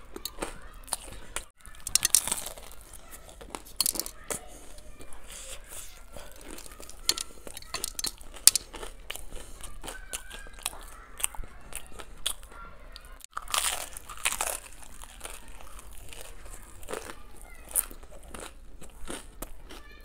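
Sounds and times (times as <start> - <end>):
crunching and chewing food: 0.0 - 20.0.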